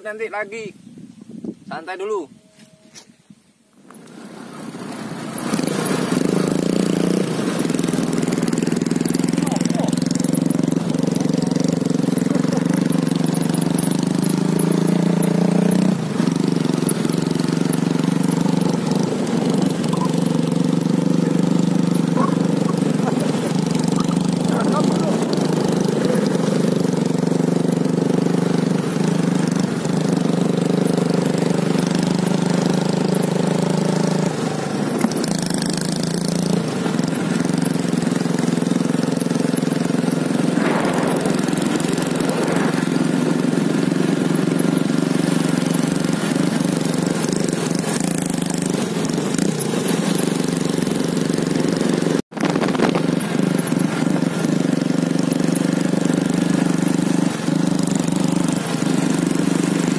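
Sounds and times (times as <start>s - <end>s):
motorcycle engine droning: 2.1s - 59.9s.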